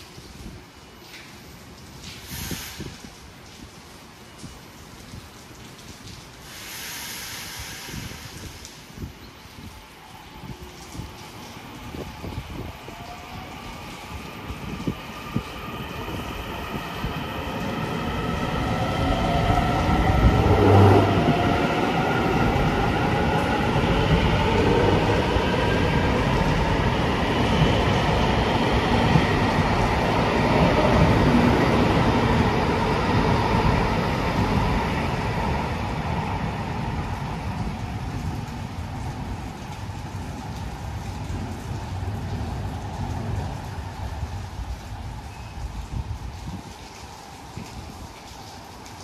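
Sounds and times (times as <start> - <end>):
wheels rumbling on rail: 6.4 - 49.0.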